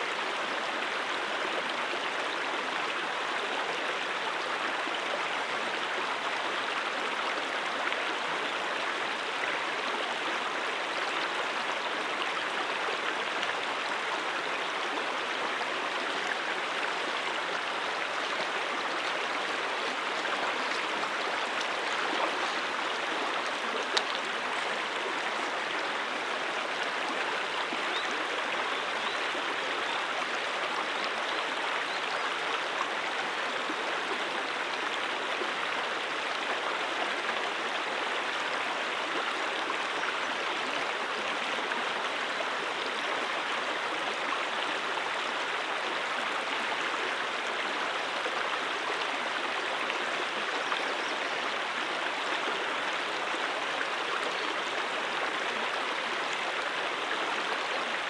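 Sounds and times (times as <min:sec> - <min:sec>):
brook flowing: 0:00.0 - 0:58.0.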